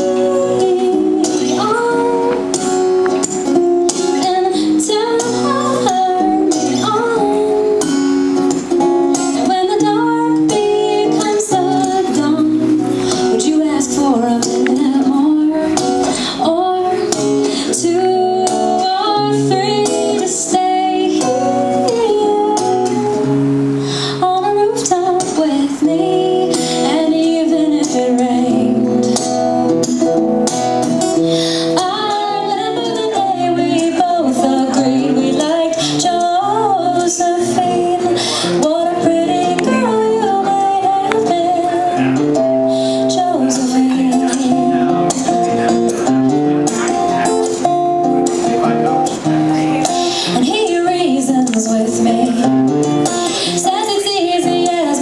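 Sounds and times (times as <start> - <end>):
woman singing through microphone: 0.0 - 30.0, 30.8 - 45.8, 49.2 - 55.0
acoustic guitar strumming: 0.0 - 55.0.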